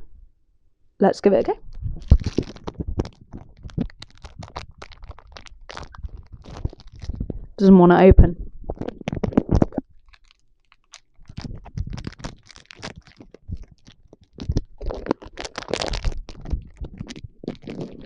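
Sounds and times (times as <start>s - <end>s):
wrapper crinkling and tearing: 2.0s - 7.5s, 8.7s - 18.0s.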